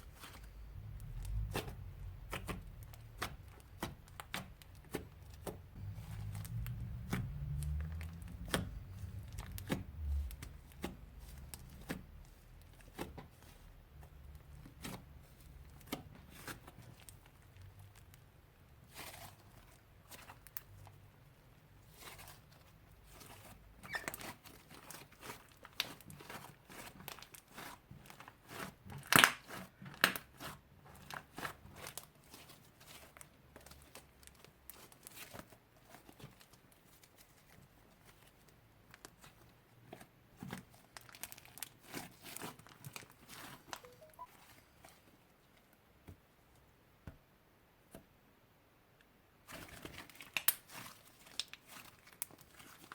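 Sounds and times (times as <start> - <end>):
slime squishing and crackling: 0.0 - 45.1, 49.4 - 52.9.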